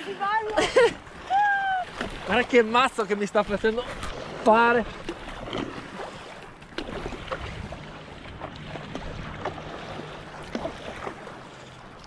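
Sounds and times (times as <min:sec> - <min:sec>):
water splashing against paddleboard: 0:00.0 - 0:12.0.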